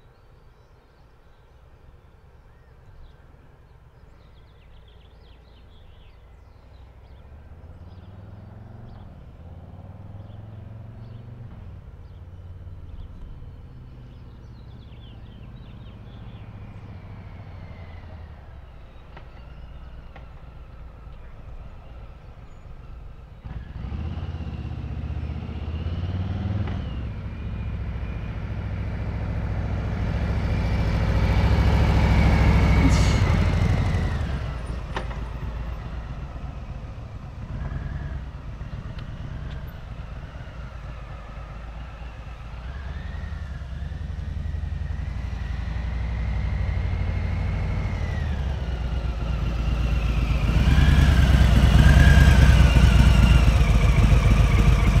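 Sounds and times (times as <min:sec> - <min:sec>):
motorcycle riding by: 0:06.8 - 0:55.0.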